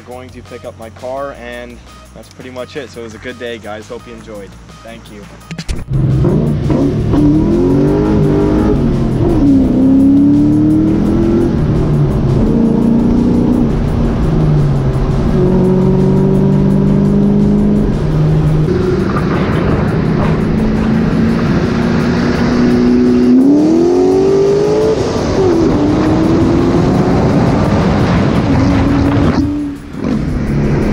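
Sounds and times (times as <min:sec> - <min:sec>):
car engine accelerating: 0:05.8 - 0:30.9.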